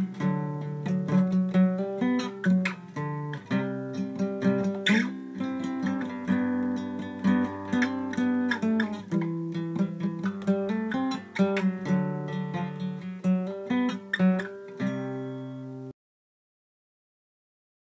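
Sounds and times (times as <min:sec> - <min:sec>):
acoustic guitar playing: 0:00.0 - 0:15.9.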